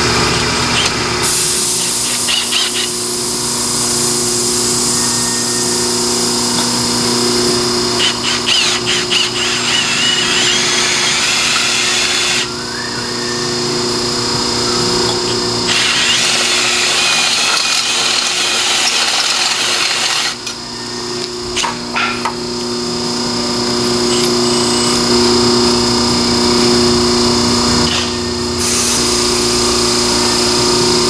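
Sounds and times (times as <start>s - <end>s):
power tool running on metal tubing: 0.0s - 31.0s.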